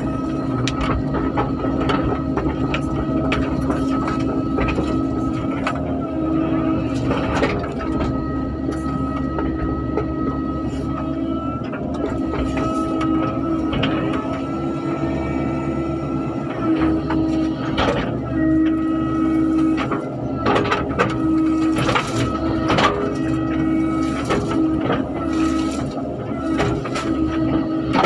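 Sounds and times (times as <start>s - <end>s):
excavator engine and hydraulics: 0.0s - 28.0s.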